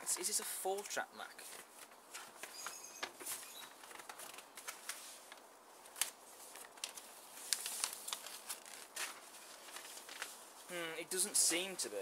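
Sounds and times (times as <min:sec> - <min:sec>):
paper crackle: 0:00.0 - 0:10.7
paper rustling and crinkling: 0:00.0 - 0:11.7.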